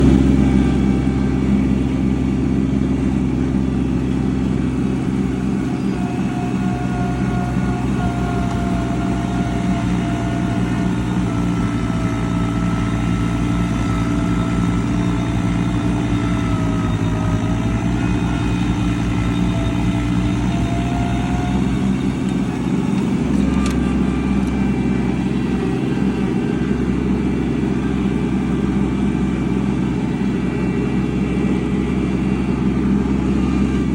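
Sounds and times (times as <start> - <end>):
engine running under load: 0.0 - 33.9
faint wavering whine: 0.0 - 33.9.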